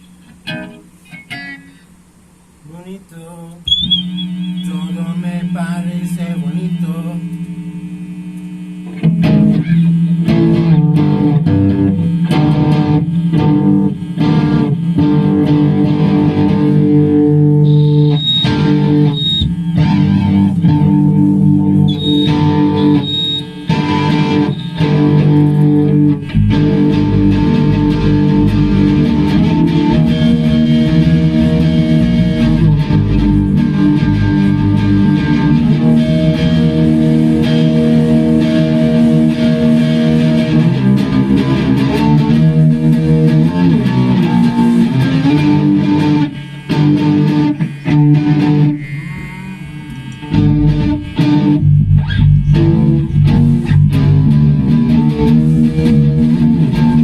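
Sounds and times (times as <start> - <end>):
bass: 0.0 - 57.0
electric guitar: 0.0 - 57.0.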